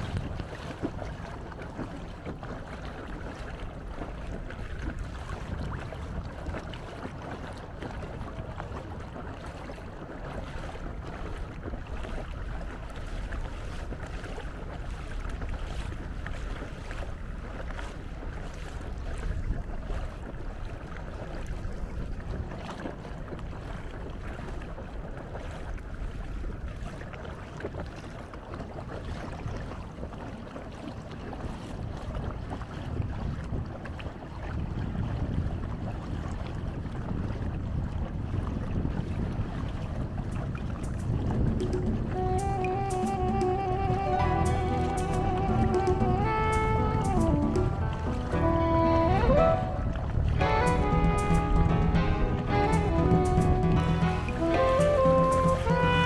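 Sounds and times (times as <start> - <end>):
water noise from canoe: 0.0 - 56.0
wind rumble on microphone: 0.0 - 56.0.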